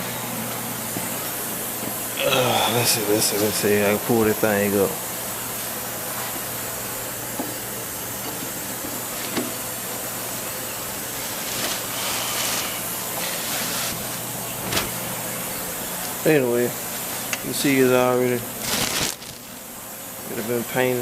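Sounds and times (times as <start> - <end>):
steady hissing noise: 0.0 - 21.0.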